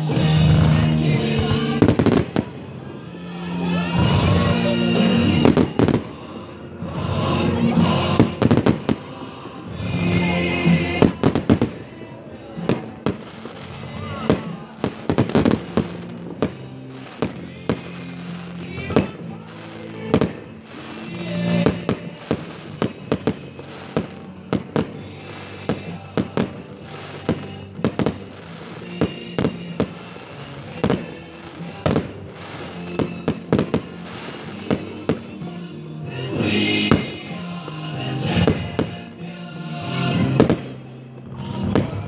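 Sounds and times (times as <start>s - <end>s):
fireworks bursting: 0.0s - 42.0s
music: 0.0s - 42.0s.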